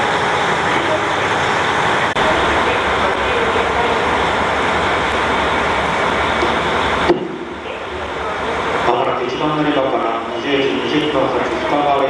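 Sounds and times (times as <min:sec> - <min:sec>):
diesel railcar engine rumbling: 0:00.0 - 0:12.0.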